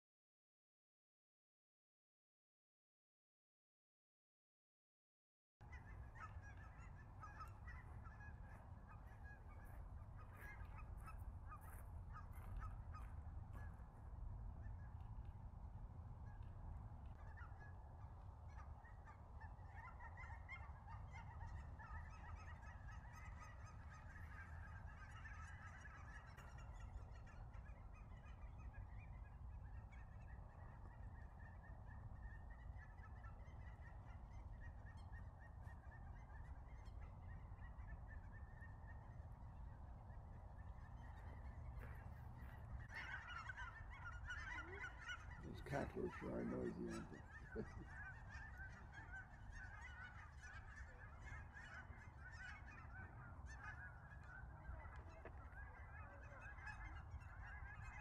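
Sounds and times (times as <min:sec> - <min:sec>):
geese cackling: 0:05.7 - 0:14.0, 0:16.3 - 0:58.0.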